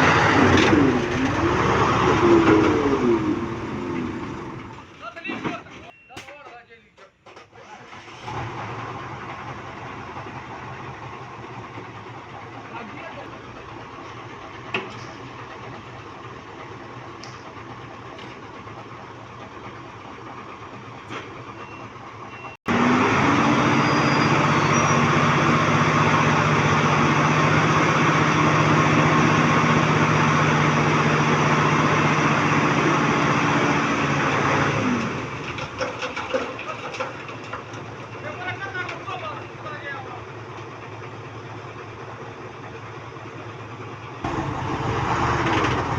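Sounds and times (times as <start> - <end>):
diesel truck engine revving: 0.0 - 5.0, 7.6 - 36.6, 40.1 - 45.9.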